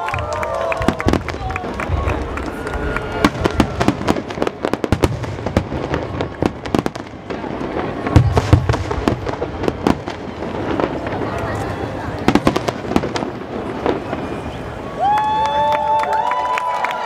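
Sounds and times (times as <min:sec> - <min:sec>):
fireworks crackling pops: 0:00.0 - 0:16.4
fireworks booms: 0:00.1 - 0:15.0.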